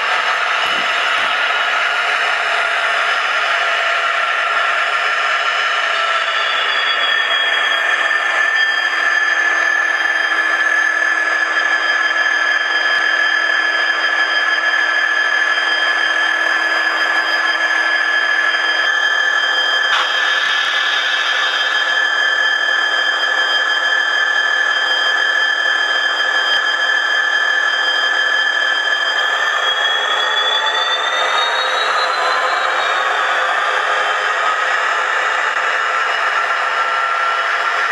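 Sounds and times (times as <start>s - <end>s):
diesel locomotive engine on small speaker: 0.0s - 37.9s.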